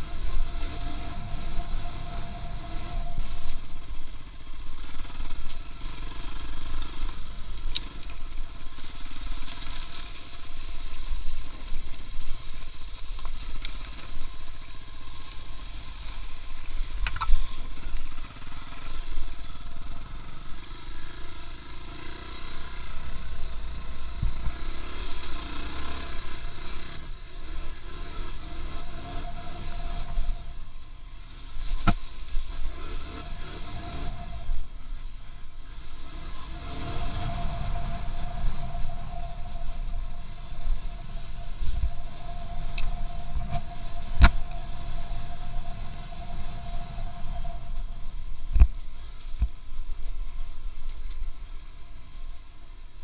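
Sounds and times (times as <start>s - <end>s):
vehicle engine and road rumble: 0.0s - 53.0s.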